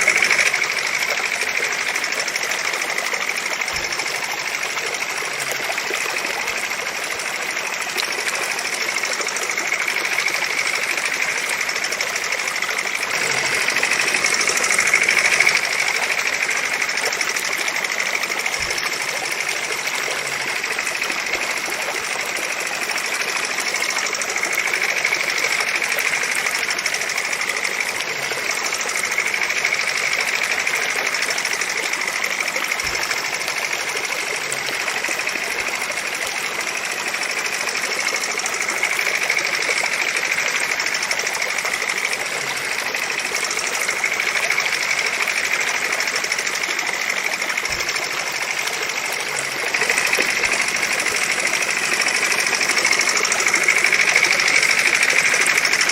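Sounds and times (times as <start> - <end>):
model engine whirring: 0.0 - 55.9.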